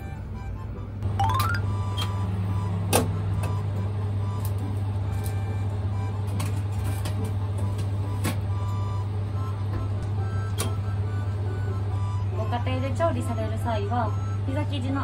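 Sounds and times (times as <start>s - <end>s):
kitchen machinery humming: 1.0s - 15.0s.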